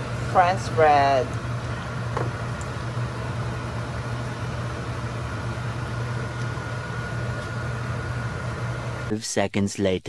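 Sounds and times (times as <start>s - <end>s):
constant low hum: 0.0s - 10.0s.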